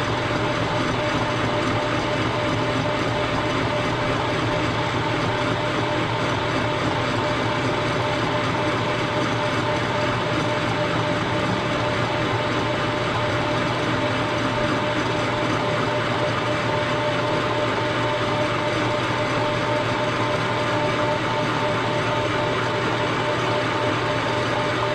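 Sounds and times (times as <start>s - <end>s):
milling machine running: 0.0s - 24.9s.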